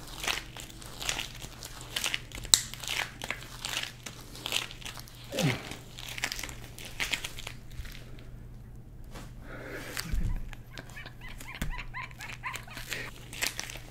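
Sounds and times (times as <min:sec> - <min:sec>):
hard candy crunching: 0:00.0 - 0:08.3, 0:09.8 - 0:13.9
low steady hum: 0:00.0 - 0:13.9.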